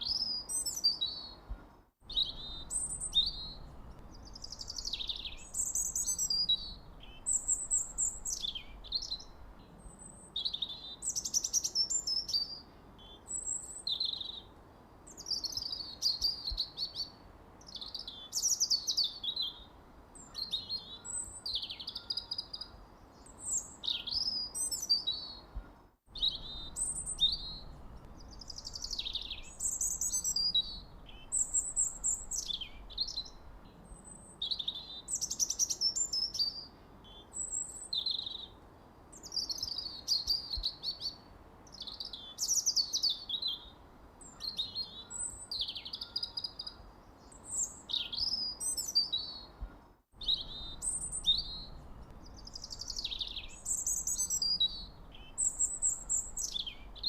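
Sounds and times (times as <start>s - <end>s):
faint background hiss: 0.0s - 57.0s
songbirds chirping: 0.0s - 57.0s.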